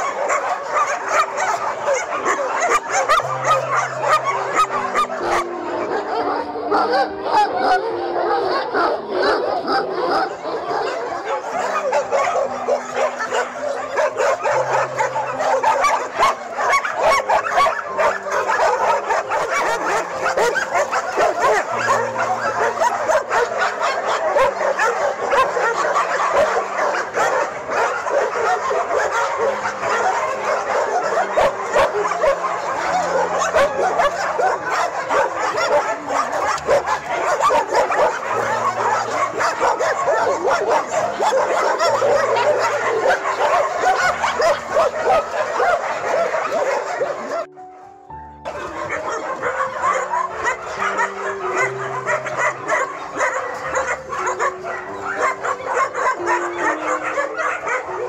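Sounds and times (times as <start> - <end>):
dogs barking yipping and whining: 0.0 - 58.0.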